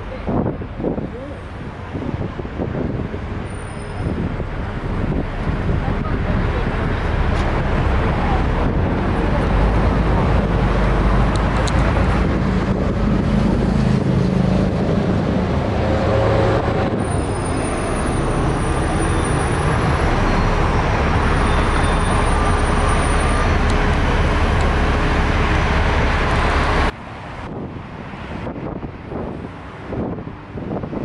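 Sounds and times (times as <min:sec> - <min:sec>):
bus engine running: 0:00.0 - 0:31.0
city traffic: 0:00.0 - 0:31.0.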